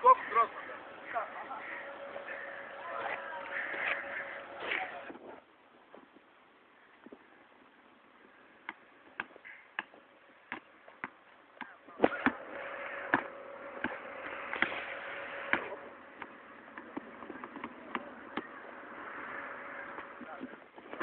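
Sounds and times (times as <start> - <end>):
steady hum: 0.0 - 5.4, 8.1 - 21.0.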